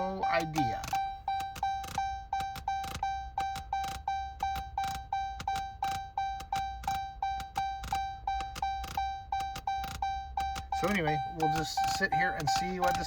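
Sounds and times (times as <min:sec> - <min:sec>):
rapidly repeating electronic chime: 0:00.0 - 0:13.0.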